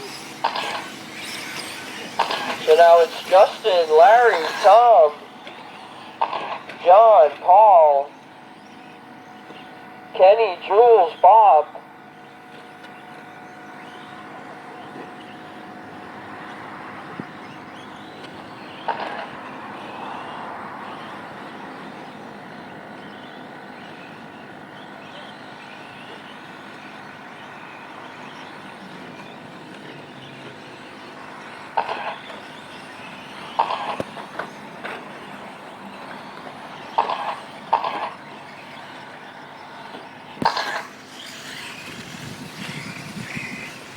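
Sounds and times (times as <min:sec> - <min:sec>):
electric motors whining: 0:00.0 - 0:43.9.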